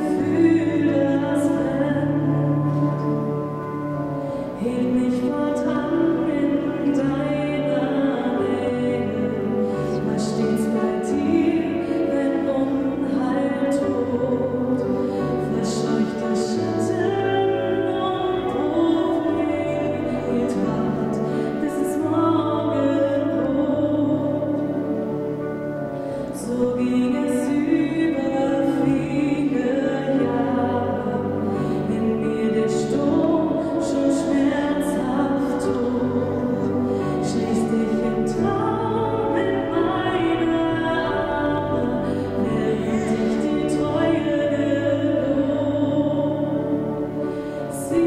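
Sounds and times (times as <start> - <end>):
long-held chords: 0.0 - 48.0
person singing: 0.0 - 48.0.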